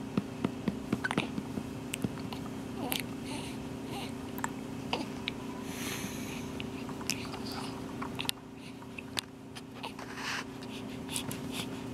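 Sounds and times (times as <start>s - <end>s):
low hum: 0.0s - 10.7s.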